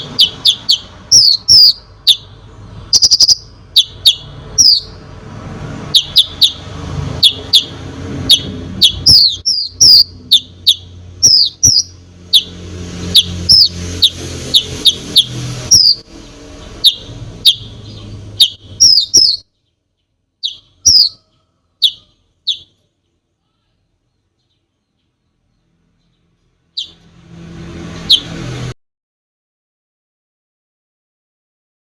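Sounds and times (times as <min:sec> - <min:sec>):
sunbird chirping: 0:00.0 - 0:05.0, 0:05.9 - 0:27.1, 0:28.0 - 0:28.5.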